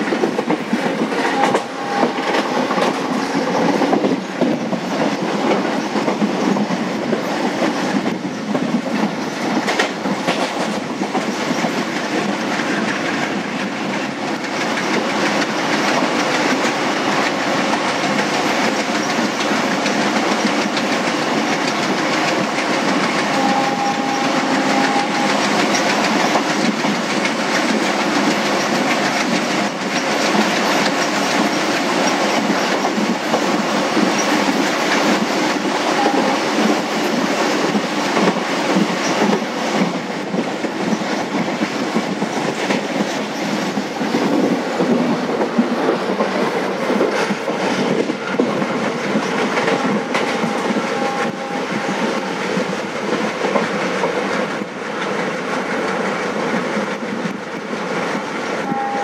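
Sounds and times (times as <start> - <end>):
rumble of moving coaches: 0.0 - 59.0.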